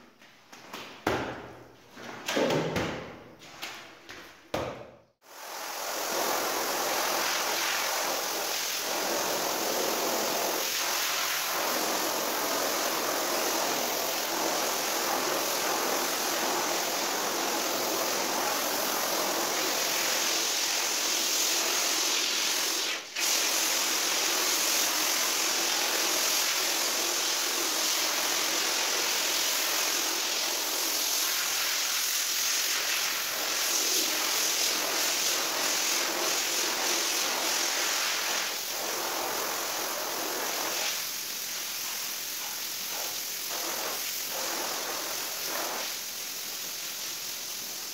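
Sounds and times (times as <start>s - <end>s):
pressure washer spray hissing: 5.2s - 47.9s.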